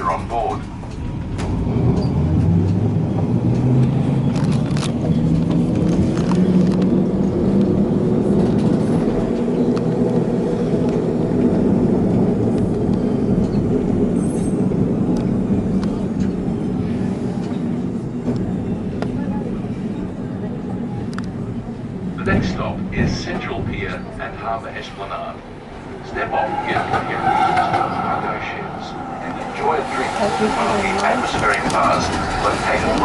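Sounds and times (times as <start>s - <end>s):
tram wheels rumbling on rails: 0.0s - 33.0s.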